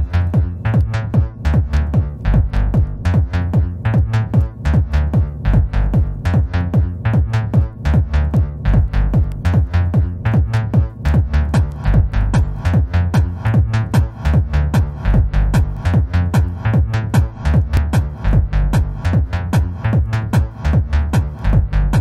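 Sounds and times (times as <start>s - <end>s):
kick drum beat: 0.0s - 22.0s
pulsing bass line: 0.0s - 22.0s.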